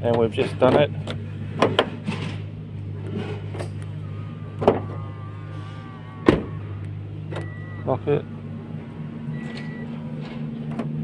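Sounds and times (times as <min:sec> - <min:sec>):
faint mechanical whine: 0:00.0 - 0:11.0
steady low hum: 0:00.0 - 0:11.0.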